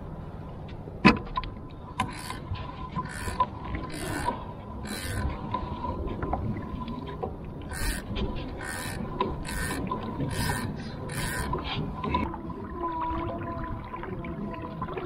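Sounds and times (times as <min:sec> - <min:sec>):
water splashing beside kayak: 0:01.1 - 0:15.0.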